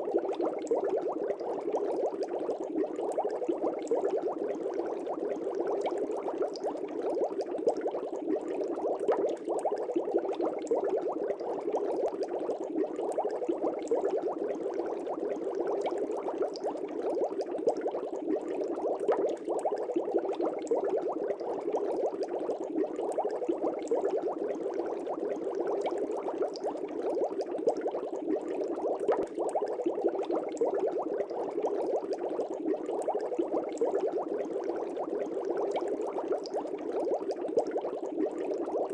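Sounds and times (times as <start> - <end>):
fish tank bubbling: 0.0 - 38.9.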